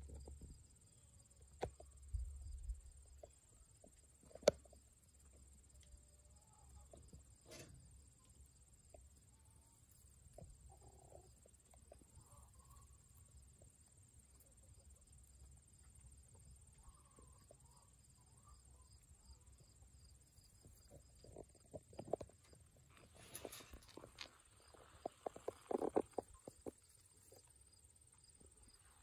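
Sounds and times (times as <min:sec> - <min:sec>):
faint insect chirping: 0:00.0 - 0:29.0.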